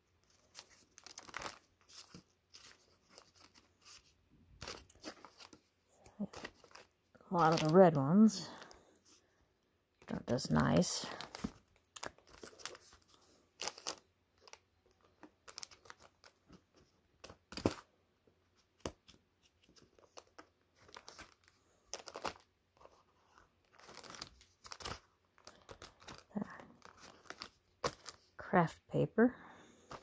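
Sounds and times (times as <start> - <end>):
cardstock paper rustling: 0.2 - 9.2, 10.5 - 17.8, 18.7 - 28.3.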